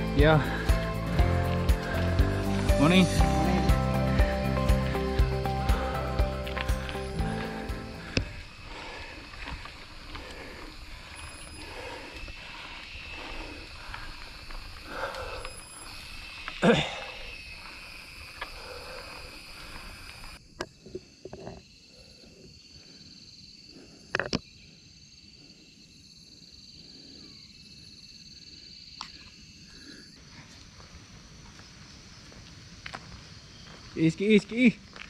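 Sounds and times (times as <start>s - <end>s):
insect chorus: 0.0s - 35.0s.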